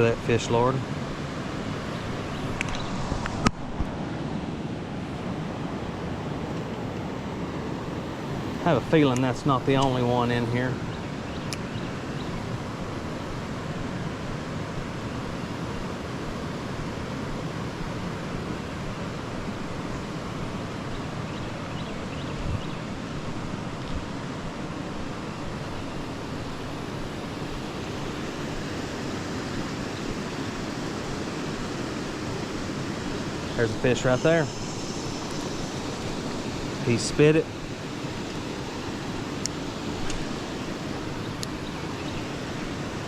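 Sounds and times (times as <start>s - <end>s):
creek water rushing over rocks: 0.0s - 43.0s.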